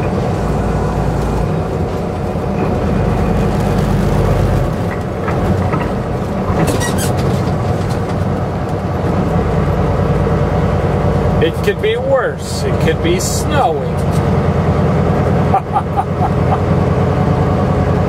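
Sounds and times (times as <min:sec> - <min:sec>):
road noise: 0:00.0 - 0:18.0
truck diesel engine drone: 0:00.0 - 0:18.0.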